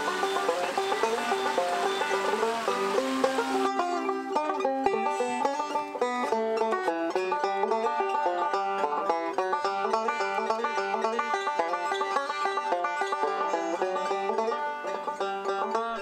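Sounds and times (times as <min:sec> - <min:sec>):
banjo picked fast: 0:00.0 - 0:16.0.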